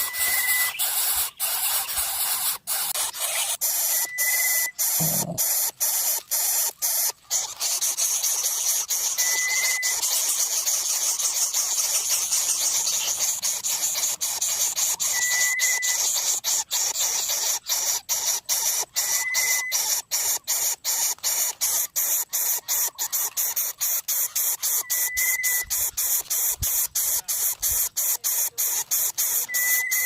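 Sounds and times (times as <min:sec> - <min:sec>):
nestlings hissing and rasping: 0:00.0 - 0:30.0.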